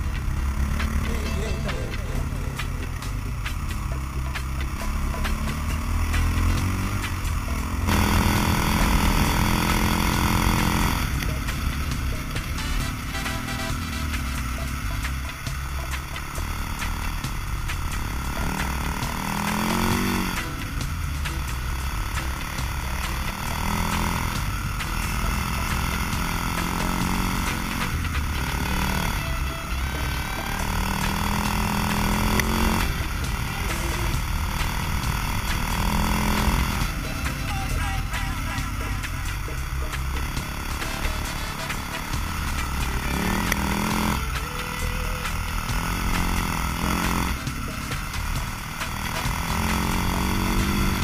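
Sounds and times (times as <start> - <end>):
dirt bike engine accelerating: 0.0 - 51.0.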